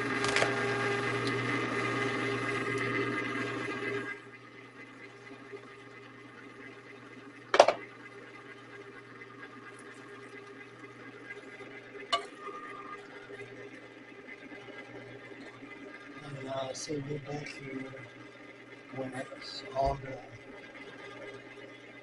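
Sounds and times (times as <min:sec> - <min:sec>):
ice cream maker motor humming: 0:00.0 - 0:22.0.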